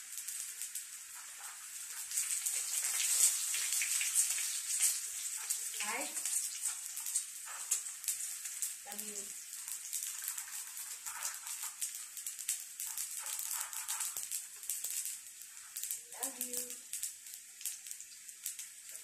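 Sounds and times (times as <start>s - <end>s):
eggplant frying in hot oil: 0.0s - 19.0s.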